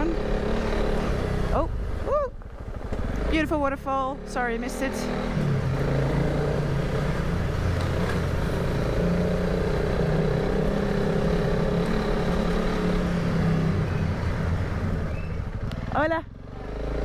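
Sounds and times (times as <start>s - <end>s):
motorcycle engine in tunnel: 0.0s - 17.0s.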